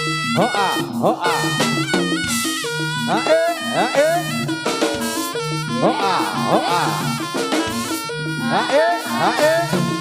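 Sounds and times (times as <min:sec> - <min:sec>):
drums beating: 0:00.0 - 0:10.0
held pitched tones: 0:00.0 - 0:10.0.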